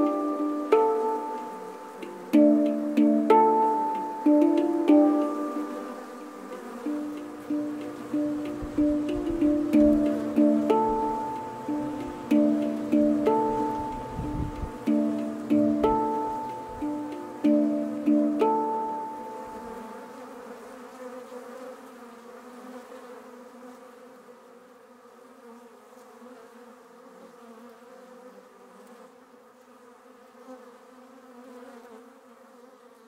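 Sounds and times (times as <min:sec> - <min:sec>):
honeybee swarm buzzing: 0:00.0 - 0:33.0.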